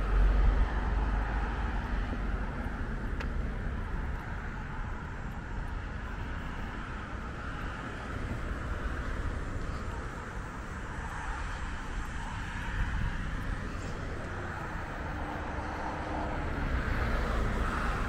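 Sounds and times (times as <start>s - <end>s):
distant traffic: 0.0s - 18.0s
passing car tyre noise: 0.0s - 18.0s.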